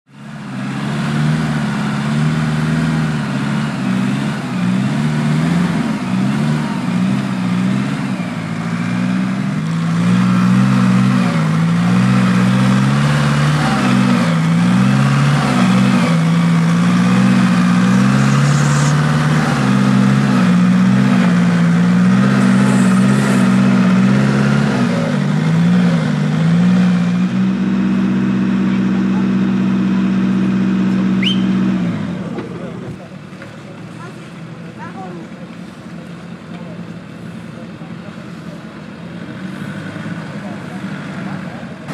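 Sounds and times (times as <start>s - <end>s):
engine revving under load: 0.1s - 34.4s, 35.3s - 41.9s.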